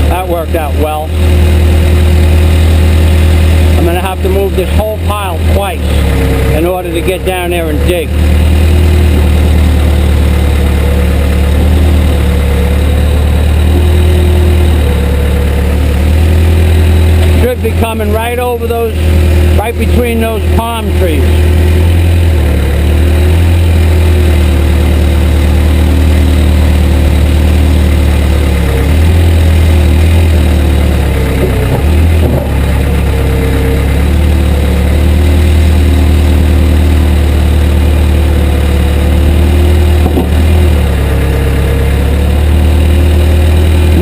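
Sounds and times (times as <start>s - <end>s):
backhoe diesel engine running: 0.0s - 44.0s.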